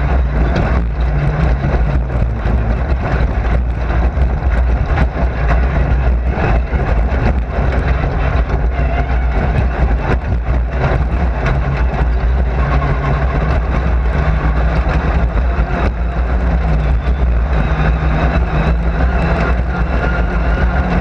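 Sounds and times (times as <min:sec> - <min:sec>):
racing car engine running: 0:00.0 - 0:21.0.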